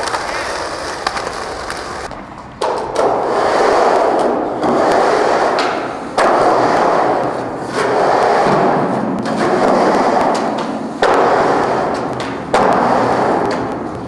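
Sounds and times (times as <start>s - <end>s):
skateboard wheels rolling: 0.0s - 14.0s.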